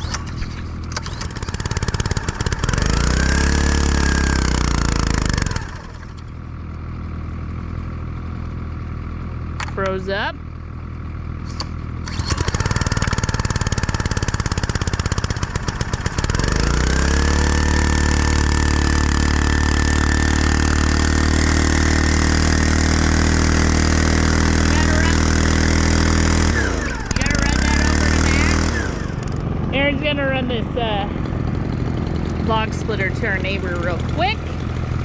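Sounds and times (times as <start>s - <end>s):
engine cranking and running: 0.0s - 6.5s, 11.3s - 35.0s.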